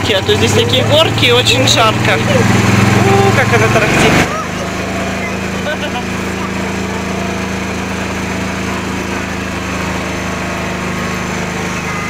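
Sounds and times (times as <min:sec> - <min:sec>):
small engine rattling chug: 0:00.0 - 0:12.0.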